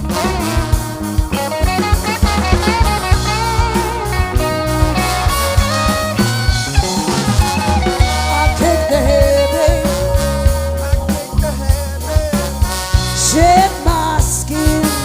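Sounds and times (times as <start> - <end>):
driving drum kit: 0.0 - 15.0
live funk band playing: 0.0 - 15.0.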